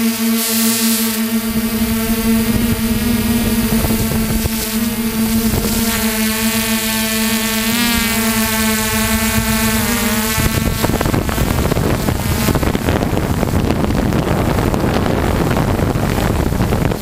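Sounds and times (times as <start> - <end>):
electric motors and propellers humming: 0.0 - 17.0
wind noise on microphone: 0.0 - 17.0.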